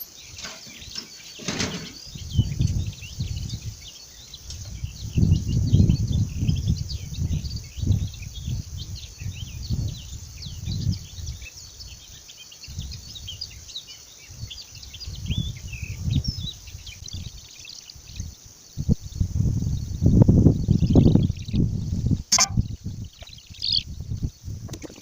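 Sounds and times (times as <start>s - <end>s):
birds chirping and singing: 0.0s - 25.0s
wind buffeting microphone: 1.6s - 25.0s.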